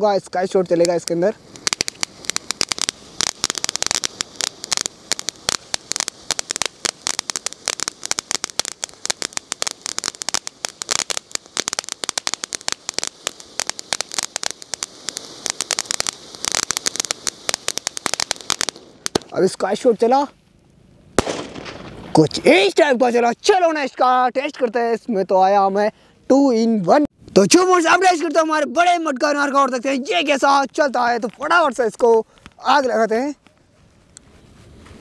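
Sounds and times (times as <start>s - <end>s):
firework crackling and hissing: 0.0s - 20.4s, 21.1s - 25.1s, 27.1s - 35.0s.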